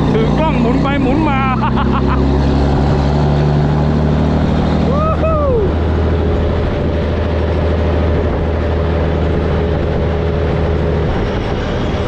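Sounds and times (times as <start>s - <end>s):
truck diesel engine droning: 0.0s - 12.0s
wind rush: 0.0s - 12.0s.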